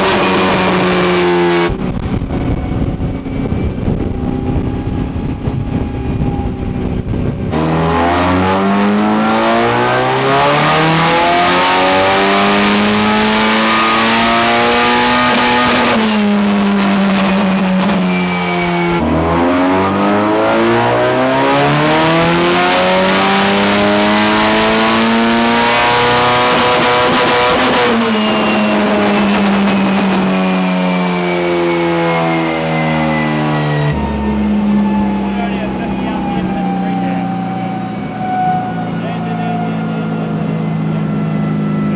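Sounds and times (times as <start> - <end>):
engine full-throttle pulls: 0.0 - 41.9.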